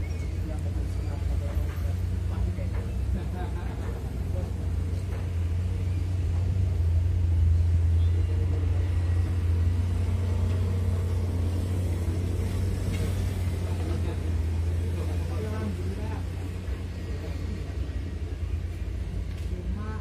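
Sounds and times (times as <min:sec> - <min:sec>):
heavy vehicle engine rumble: 0:00.0 - 0:20.0.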